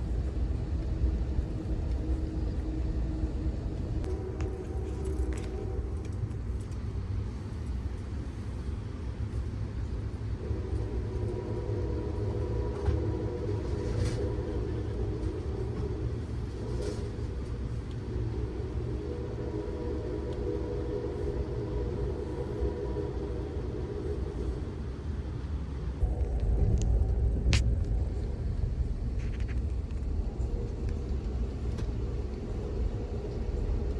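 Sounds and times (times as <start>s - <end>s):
train rumbling on rails: 0.0s - 33.9s.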